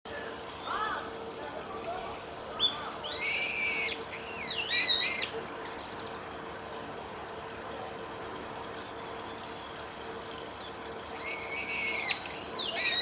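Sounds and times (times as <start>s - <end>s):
bird nasal gliding calls: 0.1s - 13.0s
faint very high bird notes: 0.1s - 13.0s.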